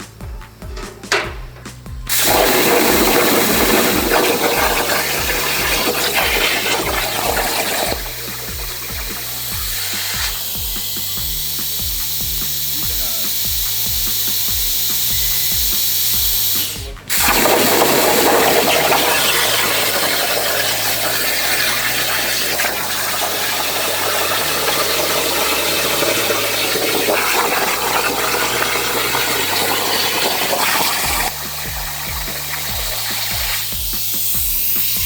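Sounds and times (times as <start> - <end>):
background music: 0.0 - 35.0
plasma cutter hissing: 0.0 - 35.0.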